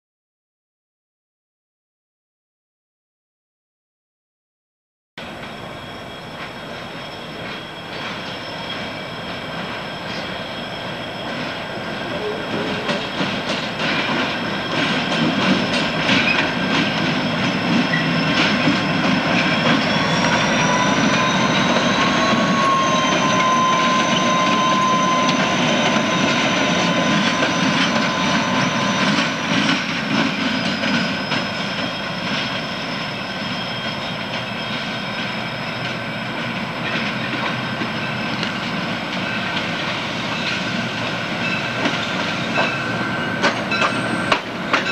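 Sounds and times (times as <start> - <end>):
diesel train passing: 5.2 - 44.9.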